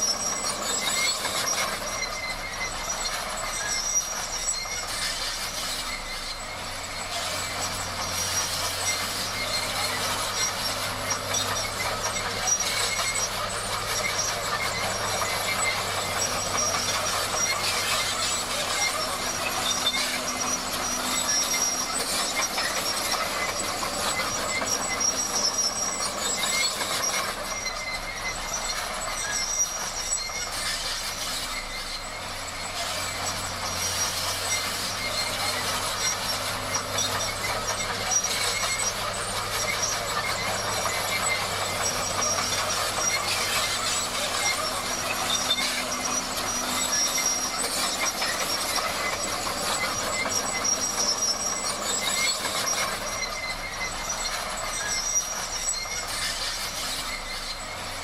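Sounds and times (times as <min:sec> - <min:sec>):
bulldozer engine running: 0:00.0 - 0:58.0
steel tracks clattering and squealing: 0:00.0 - 0:58.0.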